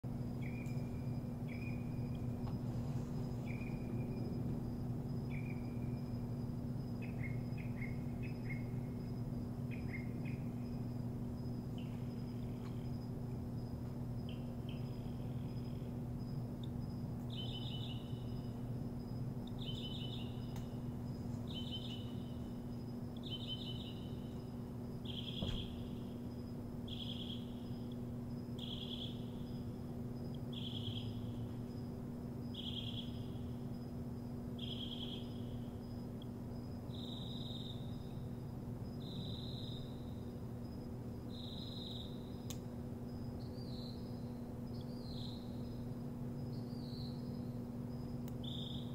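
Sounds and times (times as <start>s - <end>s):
songbird singing: 0.1s - 48.9s.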